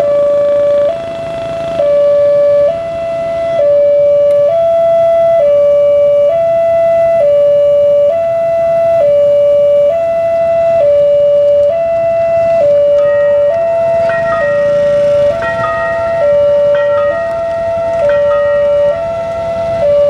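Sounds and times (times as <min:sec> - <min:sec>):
level crossing two-tone warning siren: 0:00.0 - 0:20.0.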